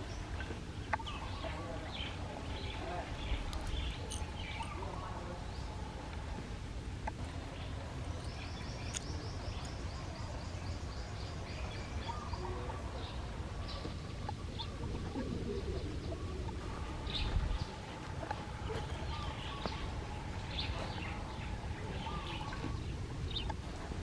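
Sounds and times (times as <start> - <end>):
birds calling: 0.0 - 24.0
steady low rumble: 0.0 - 24.0.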